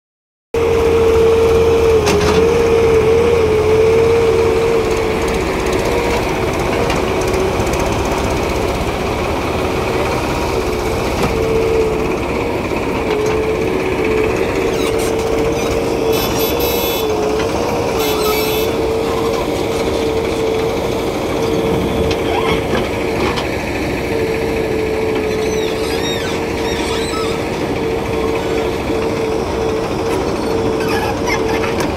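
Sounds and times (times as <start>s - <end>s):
diesel engines droning: 0.6s - 31.9s.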